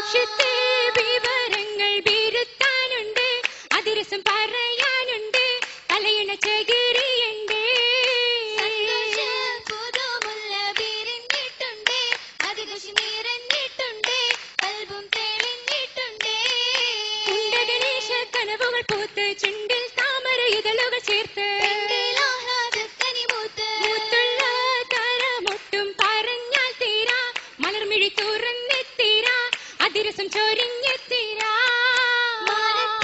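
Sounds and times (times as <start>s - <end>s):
rhythmic hand-clapping: 0.0s - 33.0s
women singing: 0.0s - 33.0s.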